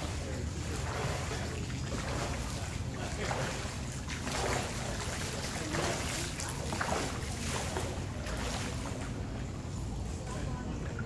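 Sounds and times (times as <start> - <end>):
swimming strokes splashing water: 0.0 - 9.6.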